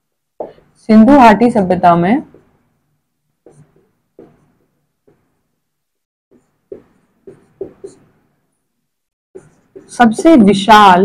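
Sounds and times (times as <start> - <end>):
marker pen on whiteboard: 0.3 - 11.0.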